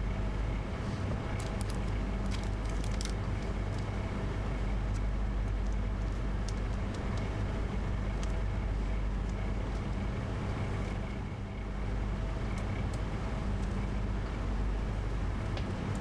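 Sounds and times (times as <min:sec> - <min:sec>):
shop ambience hum: 0:00.0 - 0:16.0.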